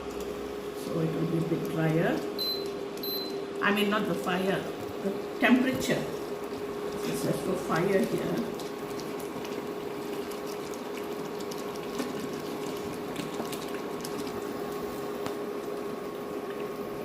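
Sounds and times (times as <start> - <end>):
gravy bubbling and sizzling: 0.0 - 17.0
steady hum: 0.0 - 17.0.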